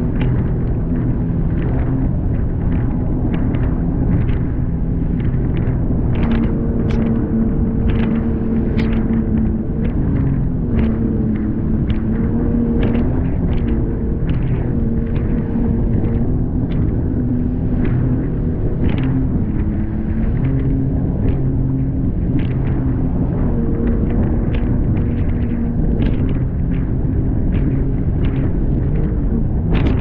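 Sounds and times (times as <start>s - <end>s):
hull slapping on waves: 0.0s - 30.0s
jet ski engine running hard: 0.0s - 30.0s
wind and water rumble: 0.0s - 30.0s.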